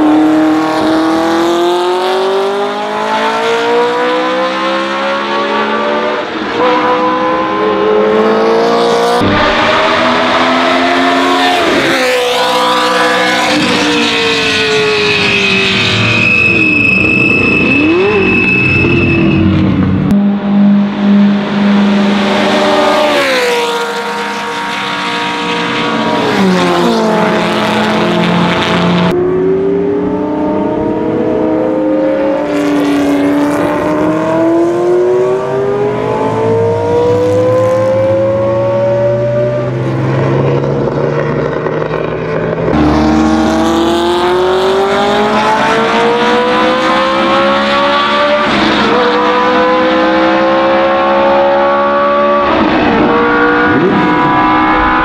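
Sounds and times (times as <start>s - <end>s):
racing cars revving past: 0.0s - 16.2s, 19.6s - 55.0s.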